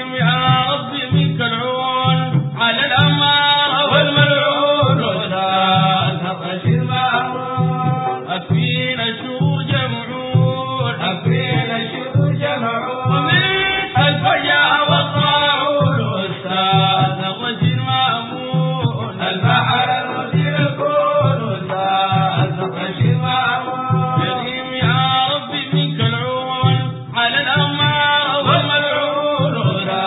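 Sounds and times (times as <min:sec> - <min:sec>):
men chanting a praise song: 0:00.0 - 0:30.0.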